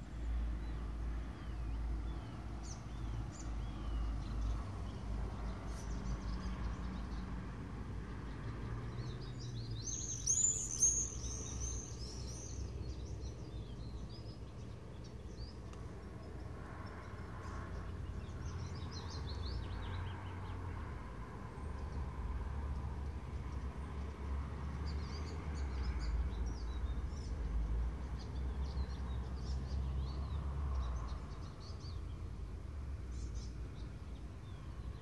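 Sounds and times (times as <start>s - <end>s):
songbirds singing: 0.0s - 35.0s.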